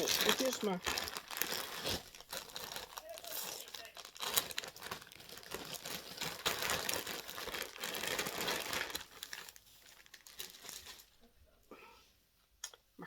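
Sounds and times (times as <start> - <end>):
packaging crinkling and rustling: 0.0 - 11.3.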